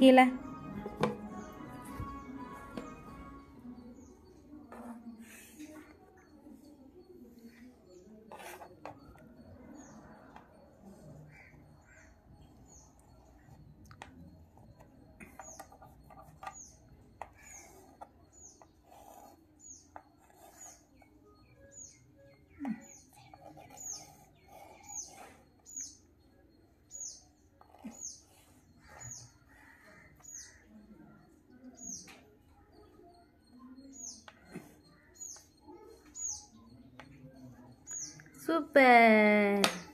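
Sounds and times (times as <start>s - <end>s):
small bird chirping: 6.1s - 38.4s.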